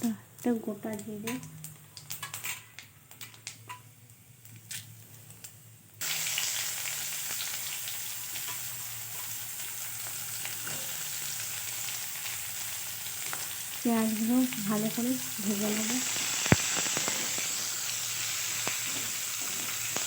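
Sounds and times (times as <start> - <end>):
onions sizzling in oil: 0.0 - 20.0
spices crackling in hot oil: 0.0 - 20.0.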